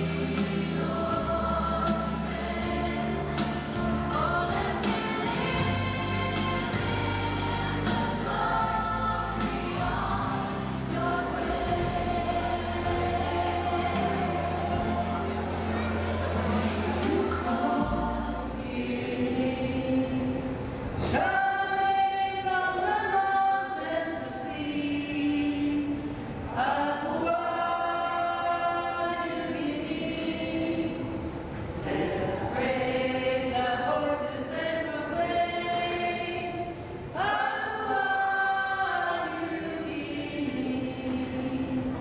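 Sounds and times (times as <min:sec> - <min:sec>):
voices singing unaccompanied: 0:00.0 - 0:42.0.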